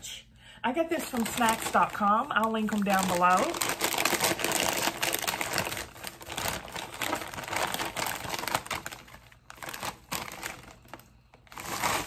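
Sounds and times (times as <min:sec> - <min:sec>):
foil chip bag crinkling: 0:00.9 - 0:12.0.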